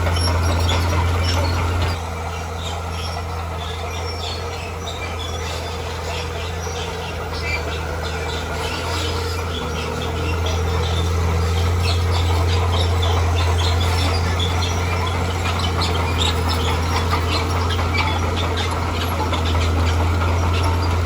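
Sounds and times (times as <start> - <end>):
heavy machine engine drone: 0.0 - 21.0
high-pitched squeaks and chirps: 3.0 - 21.0.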